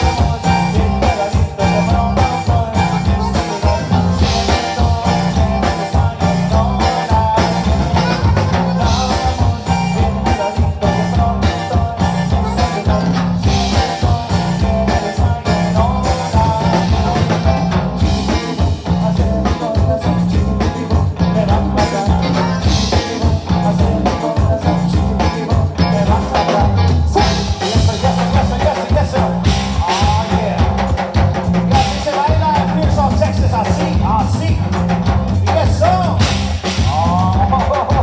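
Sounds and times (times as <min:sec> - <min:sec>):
button accordion melody: 0:00.0 - 0:38.0
live band playing conjunto music: 0:00.0 - 0:38.0.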